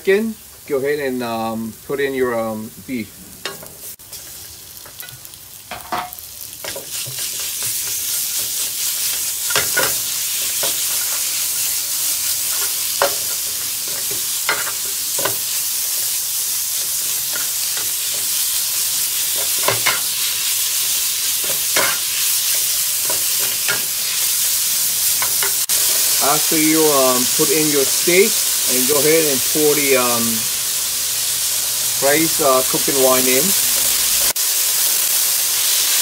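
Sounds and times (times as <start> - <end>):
meat sizzling in skillet: 0.1 - 36.0.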